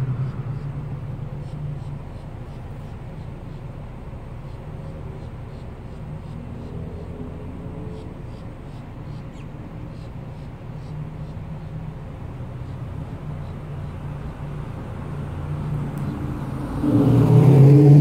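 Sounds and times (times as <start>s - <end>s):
birds chirping: 0.0s - 16.8s
distant vehicle engine rumble: 0.0s - 18.0s.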